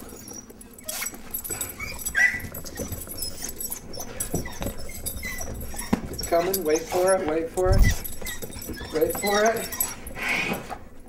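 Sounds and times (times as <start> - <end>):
dog whining in high notes: 0.1 - 10.6
scuffling and thumps: 0.9 - 11.0.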